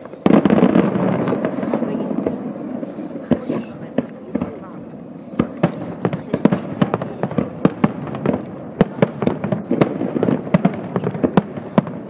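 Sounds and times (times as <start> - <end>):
firework shells bursting: 0.0 - 12.0
fireworks crackling: 0.0 - 12.0.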